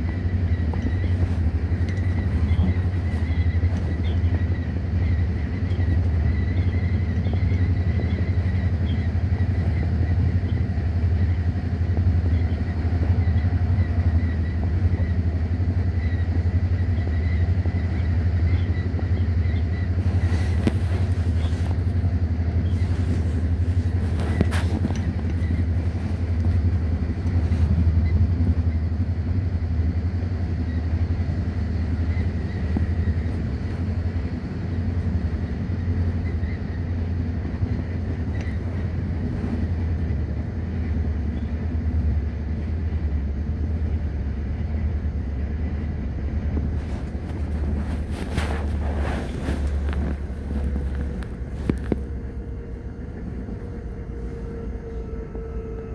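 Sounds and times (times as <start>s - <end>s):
vehicle rumble in motion: 0.0s - 55.9s.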